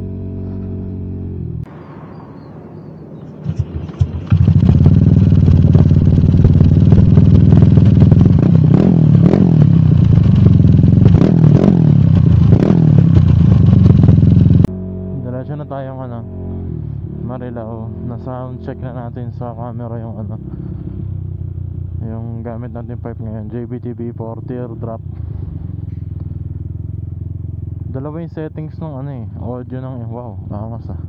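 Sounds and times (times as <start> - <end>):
motorcycle engine revving: 0.0 - 1.7, 3.2 - 31.0.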